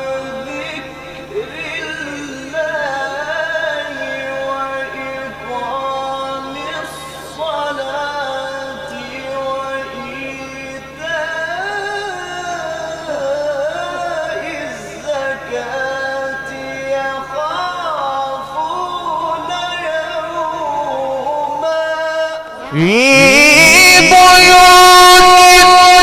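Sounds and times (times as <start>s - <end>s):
man chanting melodically: 0.0s - 26.0s.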